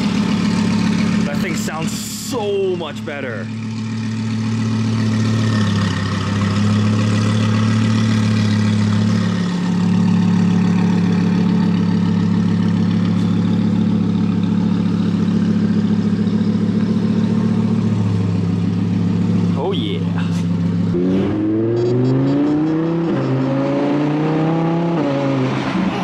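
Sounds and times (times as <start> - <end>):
sports car engine idling: 0.0 - 21.0.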